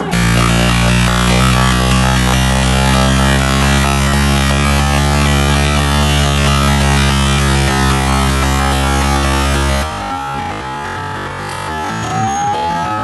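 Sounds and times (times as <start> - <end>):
loud electronic music: 0.0 - 13.0.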